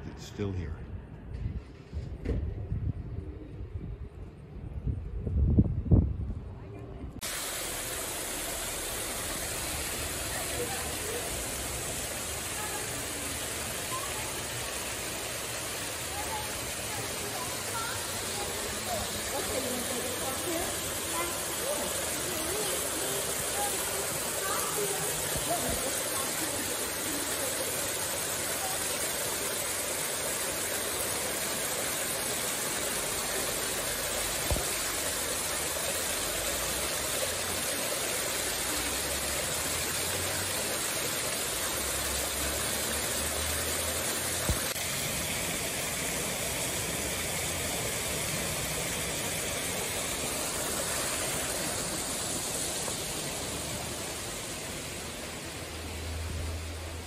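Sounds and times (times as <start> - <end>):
waterfall pouring into pond: 7.2 - 57.0.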